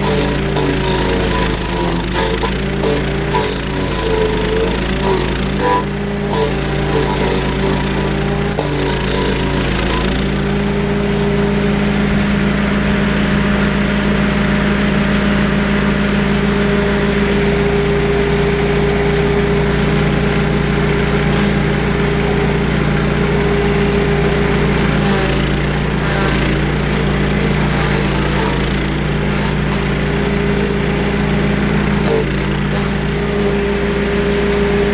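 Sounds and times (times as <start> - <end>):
cutter wheel grinding stump: 0.0 - 34.9
stump grinder engine running: 0.0 - 34.9.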